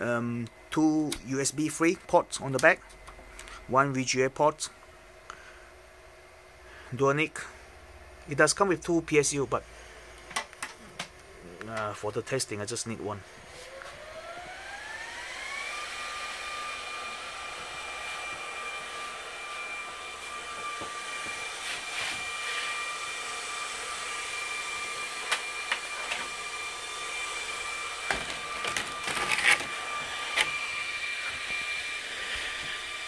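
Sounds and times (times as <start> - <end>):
server cooling fans whining: 0.0 - 33.0.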